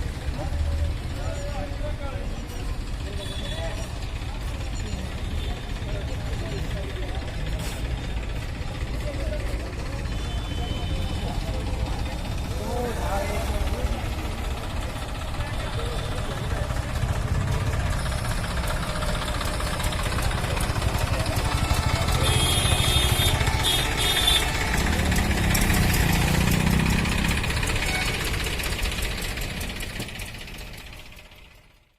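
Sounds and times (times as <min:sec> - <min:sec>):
tractor engine knocking idle: 0:00.0 - 0:31.9.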